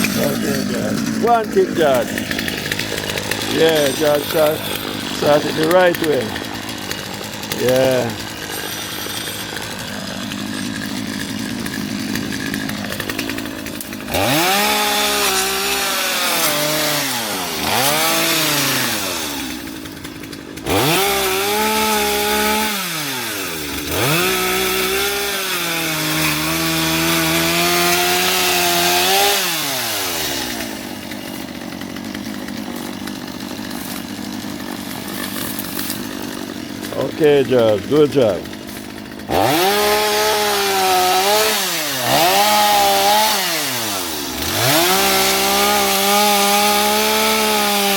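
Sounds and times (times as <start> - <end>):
chainsaw idling and revving: 0.0 - 47.9.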